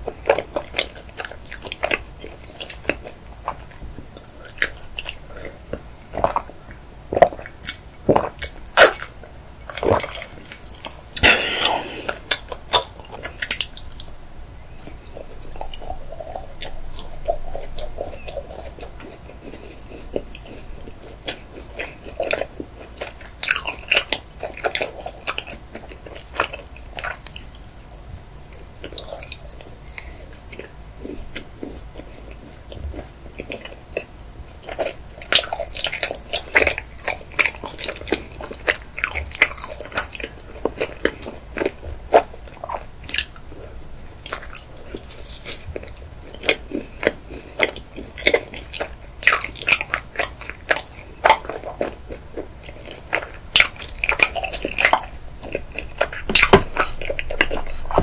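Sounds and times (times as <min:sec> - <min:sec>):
chocolate crackling while chewed: 0:00.0 - 0:58.0.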